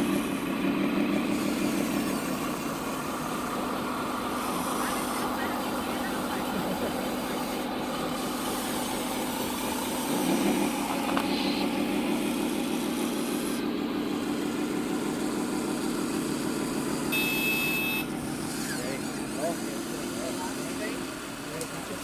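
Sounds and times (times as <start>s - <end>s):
toy truck motor grinding and whirring: 0.0s - 22.0s.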